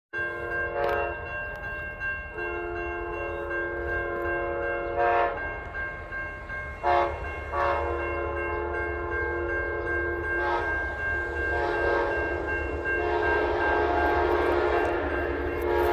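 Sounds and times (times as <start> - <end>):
passing train rumble: 0.2 - 15.9
locomotive horn chord: 0.4 - 1.2, 2.4 - 5.6, 6.8 - 15.9.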